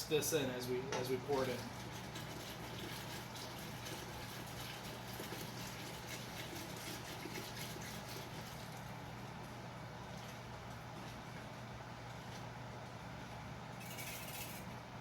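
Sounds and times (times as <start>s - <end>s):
liquid sloshing in a pot: 1.3s - 14.7s.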